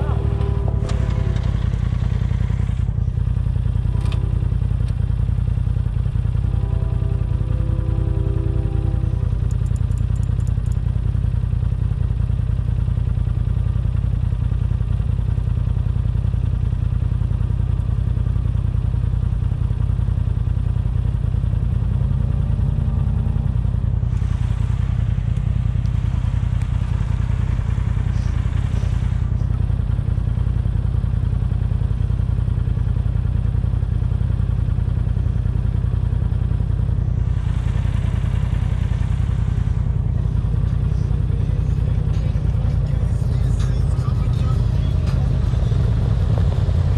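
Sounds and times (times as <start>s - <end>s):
off-road vehicle rumbling: 0.0s - 46.9s.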